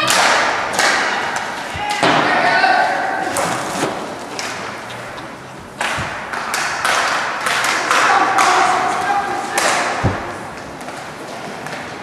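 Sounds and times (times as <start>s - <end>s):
voices: 0.0s - 11.0s
crowd noise: 0.0s - 12.0s
hockey sticks and puck knocks: 0.0s - 12.0s.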